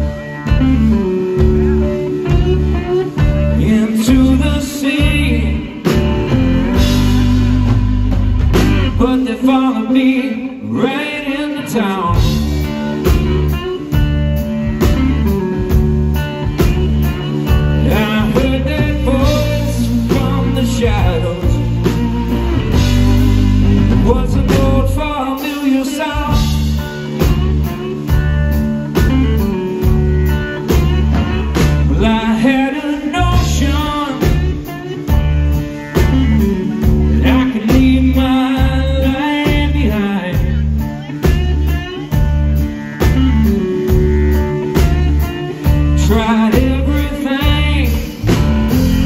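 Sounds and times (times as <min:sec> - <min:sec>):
man singing: 0:00.0 - 0:15.8, 0:16.4 - 0:49.0
blues-rock band playing: 0:00.0 - 0:49.0.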